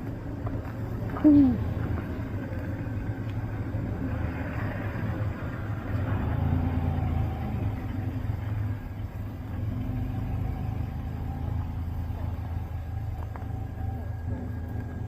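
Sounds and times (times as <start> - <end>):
road rumble: 0.0 - 15.0
vehicle engine running: 0.0 - 15.0.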